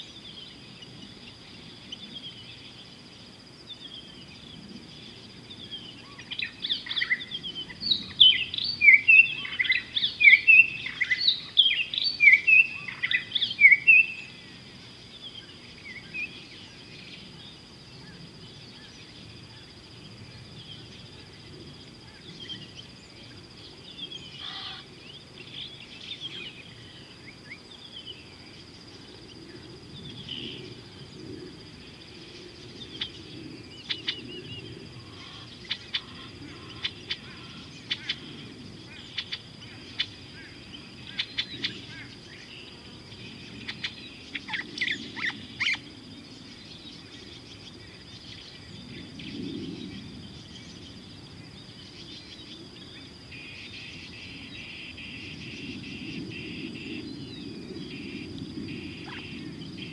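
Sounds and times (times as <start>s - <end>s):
high insect trill: 0.0s - 59.9s.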